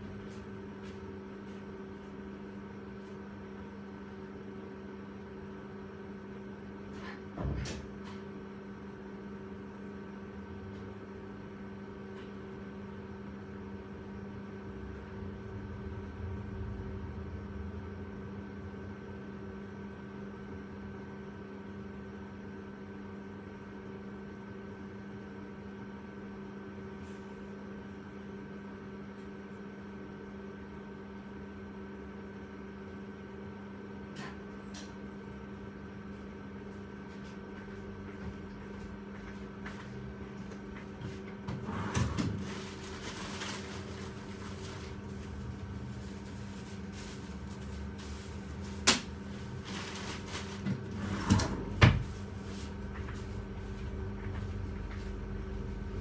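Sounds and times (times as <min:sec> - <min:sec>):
appliance electrical hum: 0:00.0 - 0:56.0.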